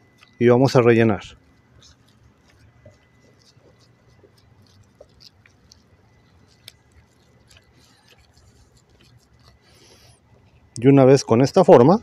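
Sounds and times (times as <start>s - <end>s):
hands squishing ground meat: 0.0s - 11.7s.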